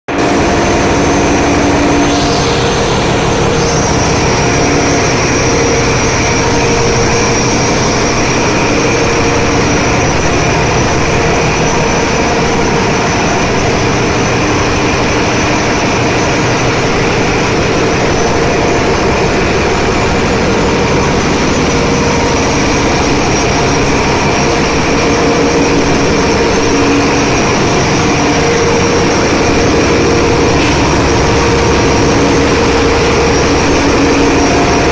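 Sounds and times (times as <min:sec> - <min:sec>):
engine room machinery din: 0:00.1 - 0:34.9
machinery whining tones: 0:00.1 - 0:34.9.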